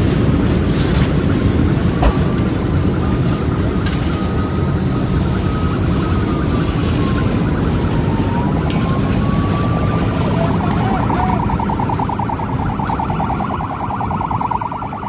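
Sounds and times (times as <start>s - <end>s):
emergency siren wailing and yelping: 0.0s - 15.0s
loud steady rumble: 0.0s - 15.0s.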